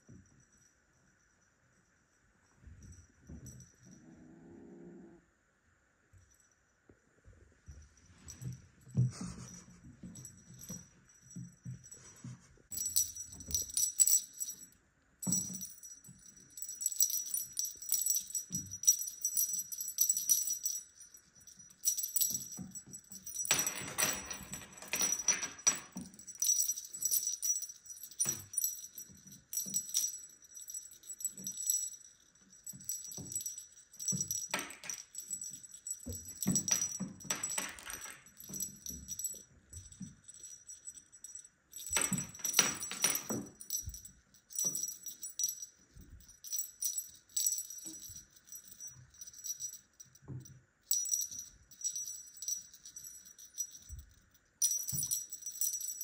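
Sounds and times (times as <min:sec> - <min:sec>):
small bell jingling: 0:07.7 - 0:56.0.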